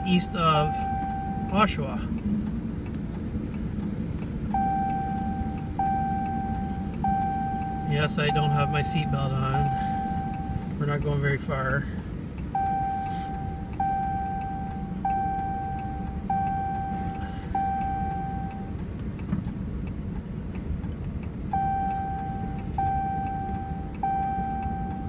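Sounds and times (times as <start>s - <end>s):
seatbelt reminder beeps: 0.0s - 2.1s, 4.2s - 11.8s, 12.4s - 19.6s, 20.6s - 25.0s
engine and road rumble: 0.0s - 25.0s.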